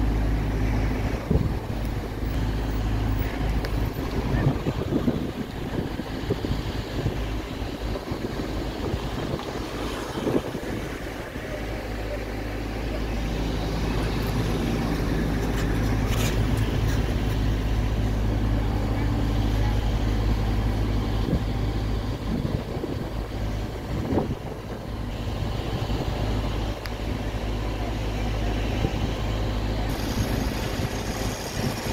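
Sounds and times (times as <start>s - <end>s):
heavy equipment engine idling: 0.0s - 31.9s.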